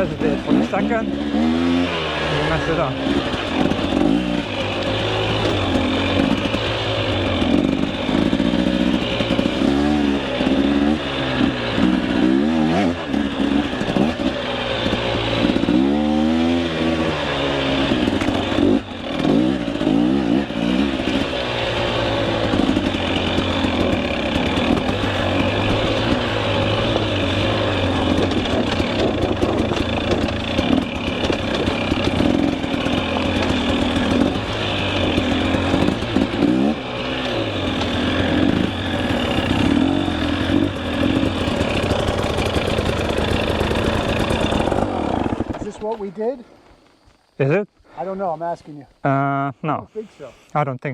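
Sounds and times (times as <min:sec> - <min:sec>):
dirt bike engine revving: 0:00.0 - 0:46.3.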